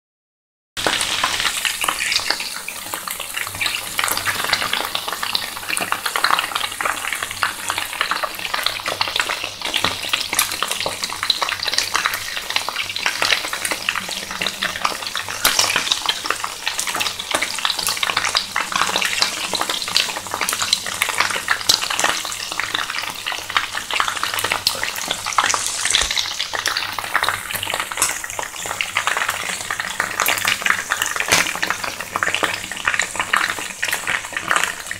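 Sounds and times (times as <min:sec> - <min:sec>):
chicken sizzling in hot oil: 0:00.8 - 0:34.9.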